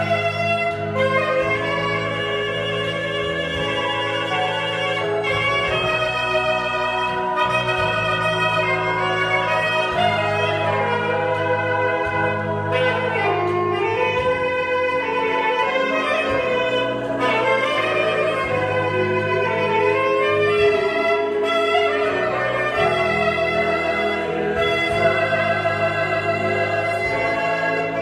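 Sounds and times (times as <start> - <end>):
saxophone slow melody: 0.0 - 28.0
sustained low accompaniment: 0.0 - 28.0.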